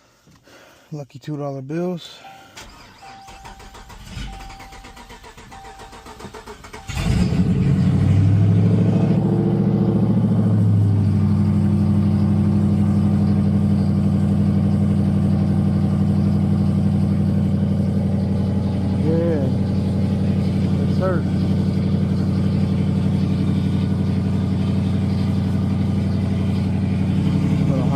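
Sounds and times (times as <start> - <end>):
car engine starting and idling: 2.2 - 27.9.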